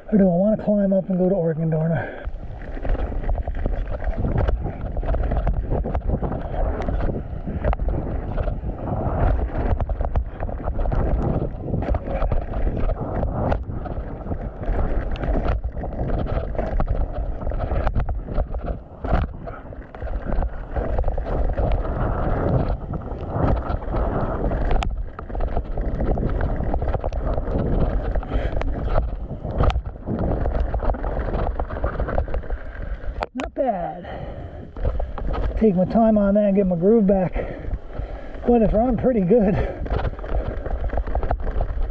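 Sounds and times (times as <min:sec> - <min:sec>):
bike tyre noise: 0:00.0 - 0:41.9
wind buffeting microphone: 0:00.0 - 0:41.9
bike knocks and rattles: 0:02.3 - 0:33.2, 0:34.8 - 0:41.9.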